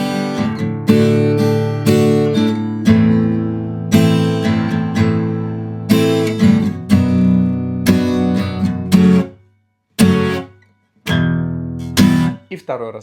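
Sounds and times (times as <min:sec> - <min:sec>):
acoustic guitar strumming chords: 0:00.0 - 0:12.6.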